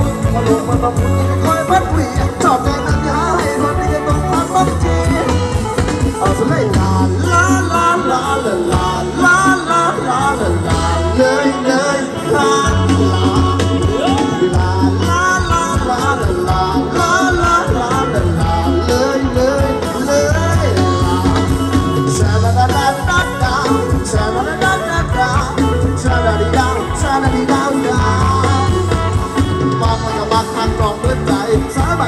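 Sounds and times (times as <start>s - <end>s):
bass line: 0.0s - 32.0s
guitar: 0.0s - 32.0s.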